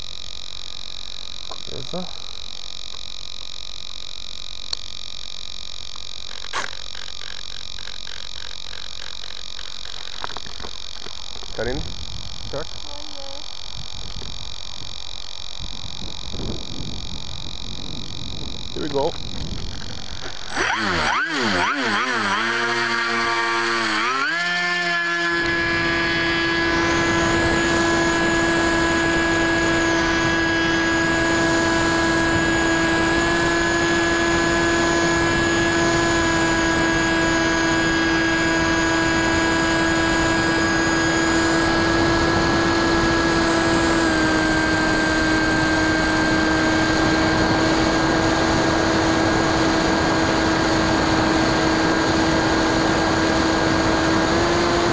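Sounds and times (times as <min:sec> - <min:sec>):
electric propeller motor whine: 0:00.0 - 0:54.9.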